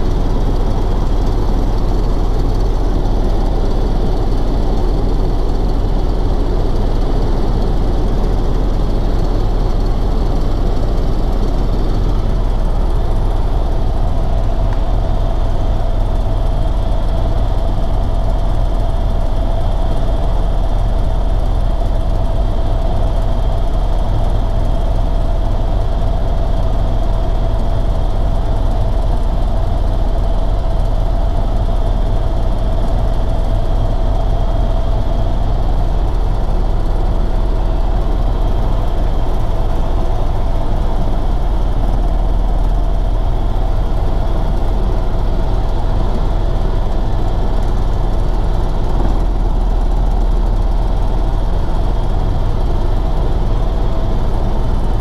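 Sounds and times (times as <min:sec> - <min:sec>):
helicopter engine and rotors droning: 0:00.0 - 0:55.0.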